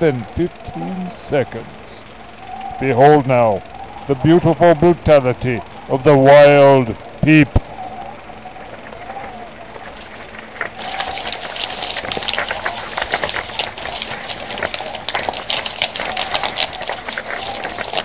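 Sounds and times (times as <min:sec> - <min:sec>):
dense crackling: 0:00.0 - 0:18.0.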